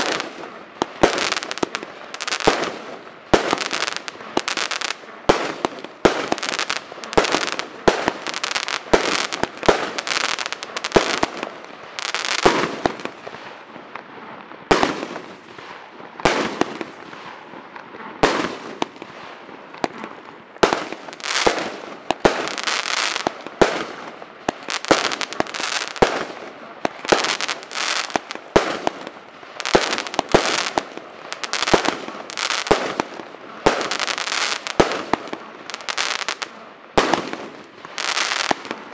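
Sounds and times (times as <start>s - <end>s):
fireworks launching and bursting: 0.0s - 13.7s, 14.6s - 17.6s, 18.2s - 38.9s.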